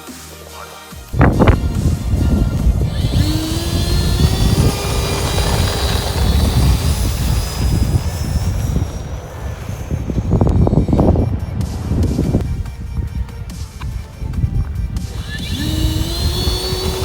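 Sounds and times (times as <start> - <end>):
electric ducted fan whining: 1.1 - 17.0
wind rumble on microphone: 1.1 - 17.0.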